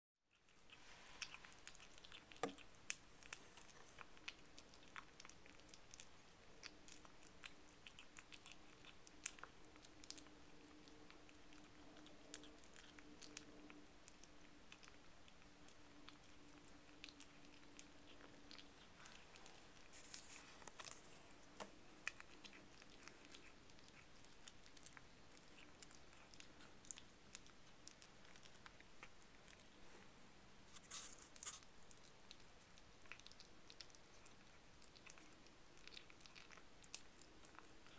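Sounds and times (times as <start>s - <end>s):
faint steady hum: 0.3s - 37.9s
kitten chewing food: 0.3s - 37.9s.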